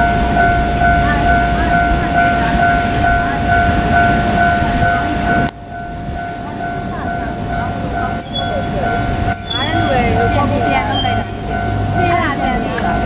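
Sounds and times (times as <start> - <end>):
diesel railcar rumble: 0.0 - 13.0
level crossing bell ringing: 0.0 - 13.0.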